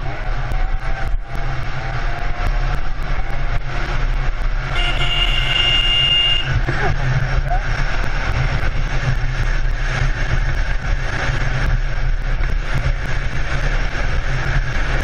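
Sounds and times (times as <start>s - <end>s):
motorcycle engine and road rumble: 0.0s - 15.0s.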